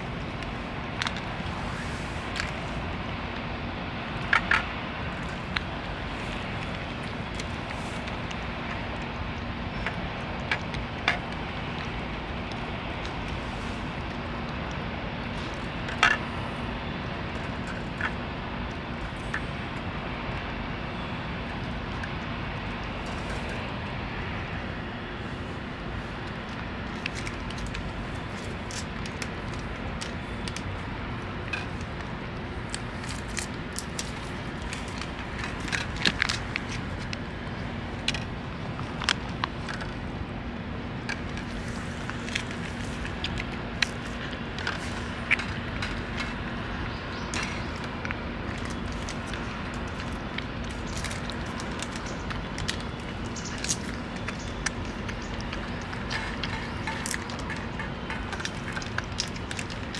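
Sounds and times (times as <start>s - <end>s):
cat chewing food: 0.0s - 59.9s
outdoor background hum: 0.0s - 59.9s.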